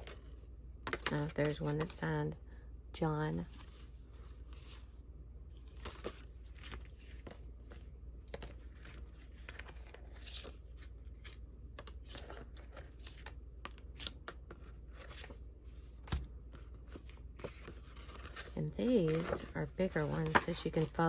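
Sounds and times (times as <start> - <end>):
paper cards rustling: 0.0 - 2.0, 5.6 - 21.0.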